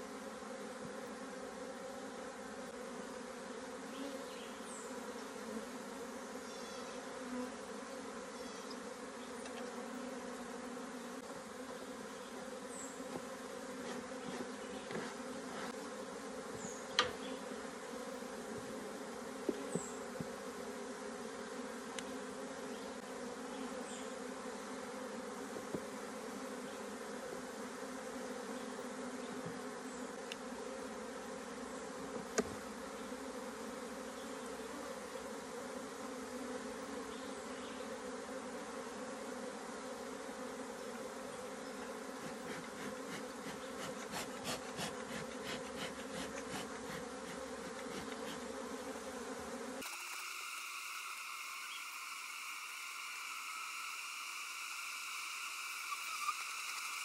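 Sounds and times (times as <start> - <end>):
honeybees humming: 0.0 - 57.0.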